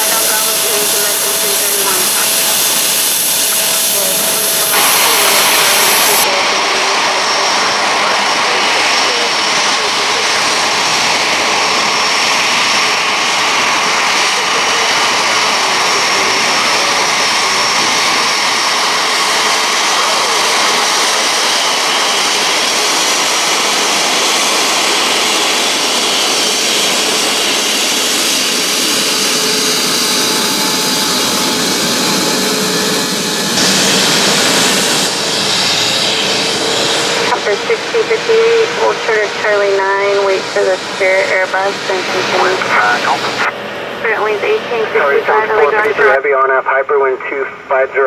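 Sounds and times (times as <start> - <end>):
jet engine whine: 0.0 - 48.0.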